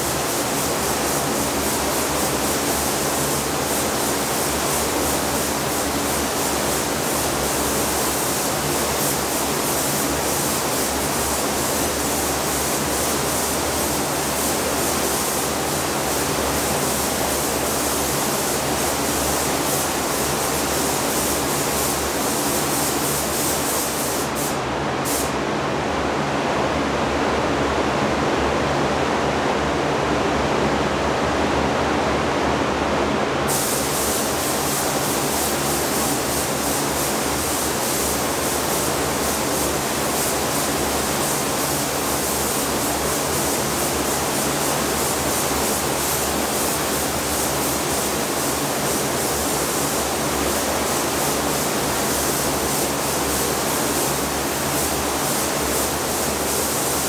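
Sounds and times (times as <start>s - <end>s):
spray booth airflow: 0.0s - 25.4s, 33.5s - 57.0s
spray gun hissing: 0.0s - 25.4s, 33.5s - 57.0s.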